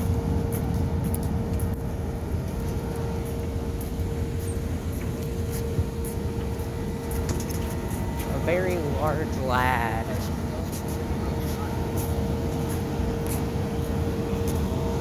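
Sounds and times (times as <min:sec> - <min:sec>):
constant mid-pitched hum: 0:00.0 - 0:15.0
steady background rumble: 0:00.0 - 0:15.0.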